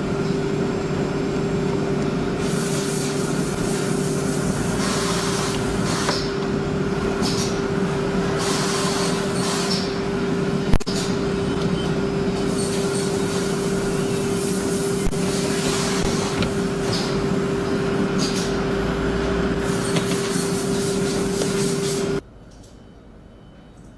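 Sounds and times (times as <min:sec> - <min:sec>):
woodworking machinery running: 0:00.0 - 0:22.2.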